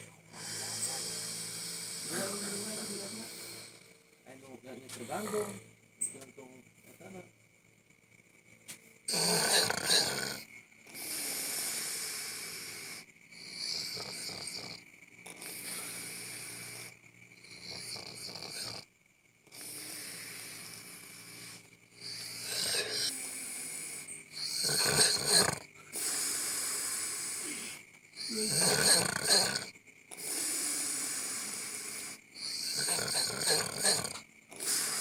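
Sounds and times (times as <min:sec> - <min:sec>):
person snoring: 0:00.0 - 0:04.0, 0:04.9 - 0:05.6, 0:09.1 - 0:18.9, 0:19.5 - 0:35.0.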